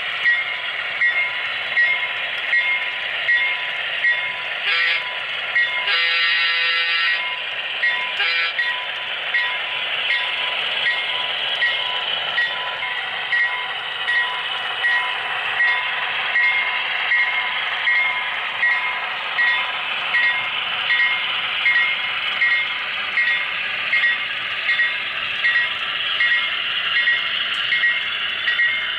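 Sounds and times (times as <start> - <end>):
regular track clicks: 0.0 - 28.9
thin model train engine drone: 0.0 - 28.9.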